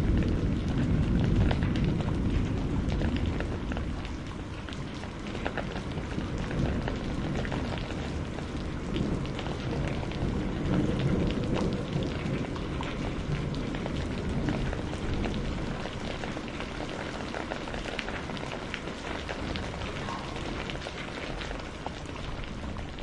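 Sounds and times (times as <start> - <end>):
low rumble of thunder: 0.0 - 23.0
raindrops pattering on a surface: 0.0 - 23.0
steady rain falling: 0.0 - 23.0.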